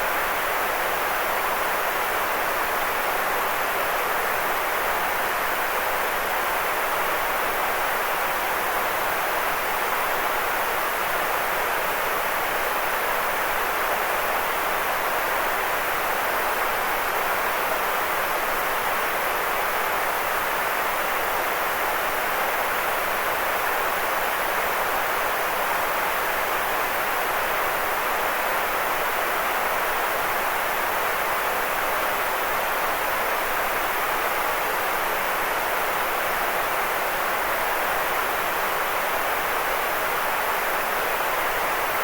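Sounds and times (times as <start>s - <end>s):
white noise hiss: 0.0s - 42.0s.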